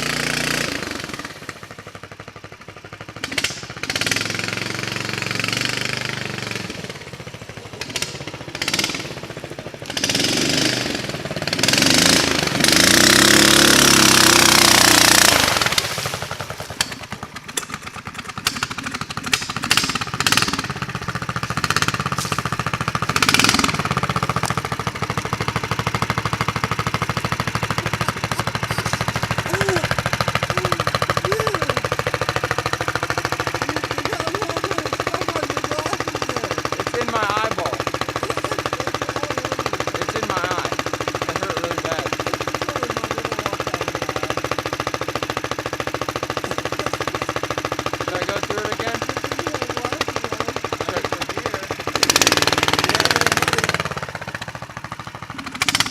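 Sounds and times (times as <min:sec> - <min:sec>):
small engine revving: 0:00.0 - 0:55.9.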